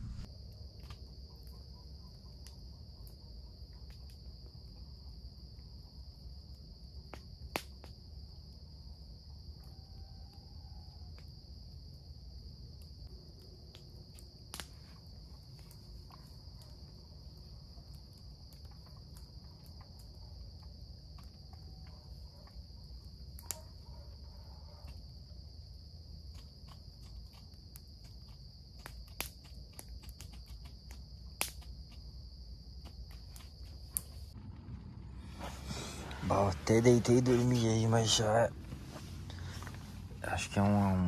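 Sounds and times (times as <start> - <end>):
night insects chorus: 0.0 - 41.0.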